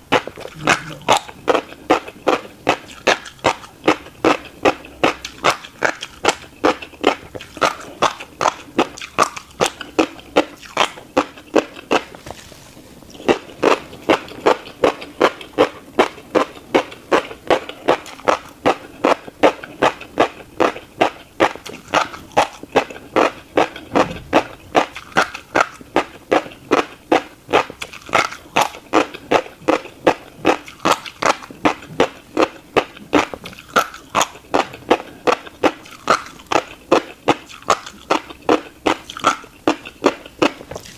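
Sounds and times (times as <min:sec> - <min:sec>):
chewing crunchy seeds: 0:00.0 - 0:40.9.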